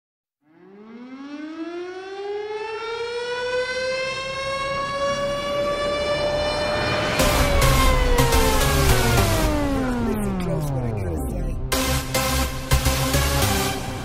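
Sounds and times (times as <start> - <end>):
siren-like wail rising in pitch: 0.5 - 14.0.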